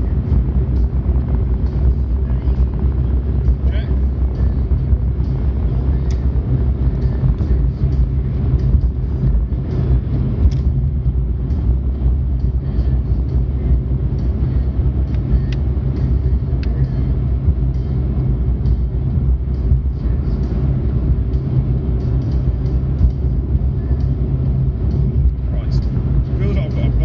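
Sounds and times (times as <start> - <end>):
car engine and tyre noise: 0.0 - 27.0.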